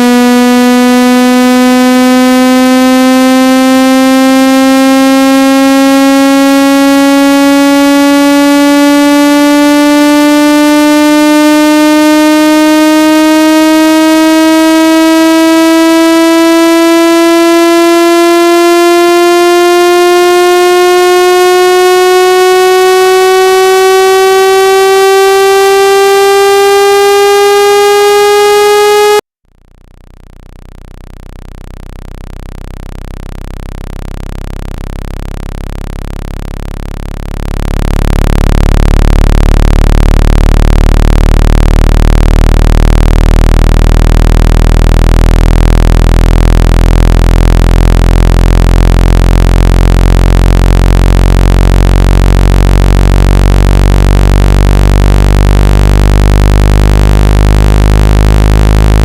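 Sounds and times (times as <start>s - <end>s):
buzzy tone rising in pitch: 0.0s - 29.2s, 30.0s - 59.0s
deep low hum: 0.0s - 59.0s.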